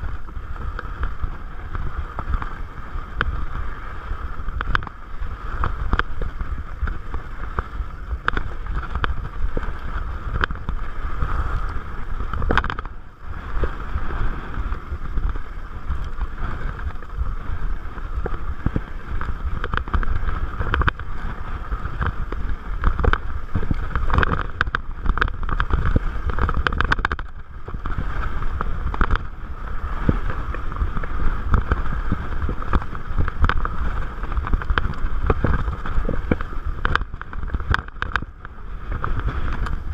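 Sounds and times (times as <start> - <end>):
bike rattling over bumps: 0.0 - 39.9
bike tyre rumble: 0.0 - 39.9
wind buffeting microphone: 0.0 - 39.9.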